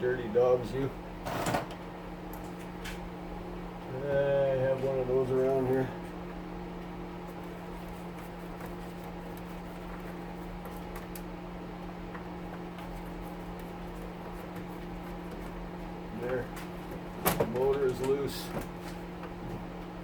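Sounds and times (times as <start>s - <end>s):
stove fan humming: 0.0s - 20.0s.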